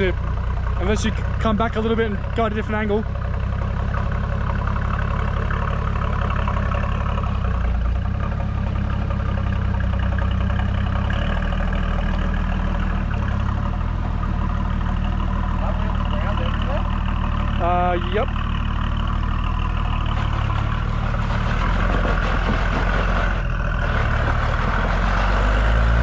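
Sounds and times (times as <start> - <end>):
off-road vehicle engine running low: 0.0 - 26.0.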